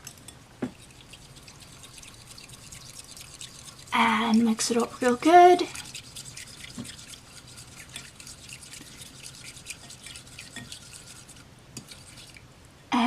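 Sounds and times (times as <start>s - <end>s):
utensil stirring glue: 0.1s - 12.5s.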